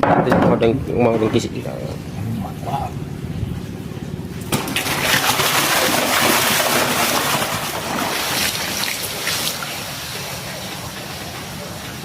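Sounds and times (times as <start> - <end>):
water splashing and sloshing: 0.5 - 12.0.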